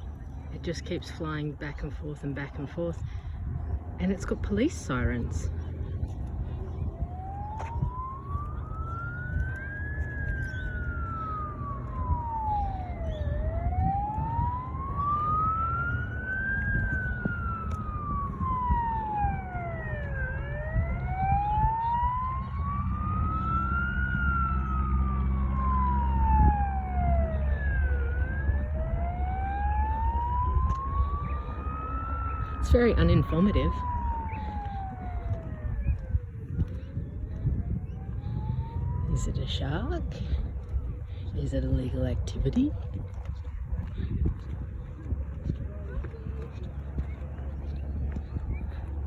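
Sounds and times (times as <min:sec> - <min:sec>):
steady low drone: 0:00.0 - 0:49.0
wail siren: 0:02.3 - 0:49.0.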